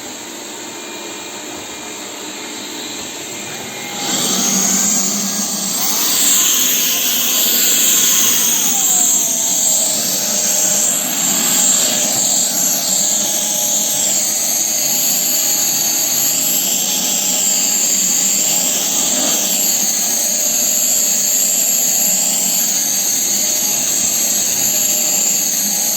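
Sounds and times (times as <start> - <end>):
robot vacuum cleaner running: 0.0 - 25.9.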